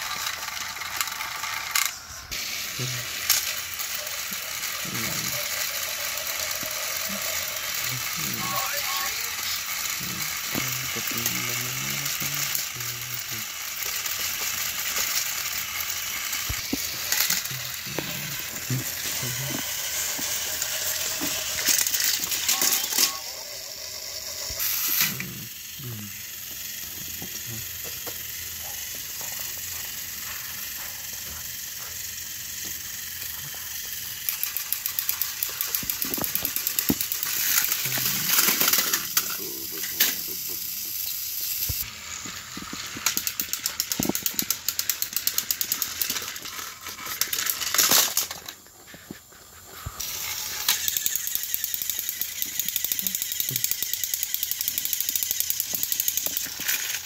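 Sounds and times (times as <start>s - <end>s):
fast clicking of toy gears: 0.0s - 57.0s
toy electric motors whirring: 0.0s - 57.0s.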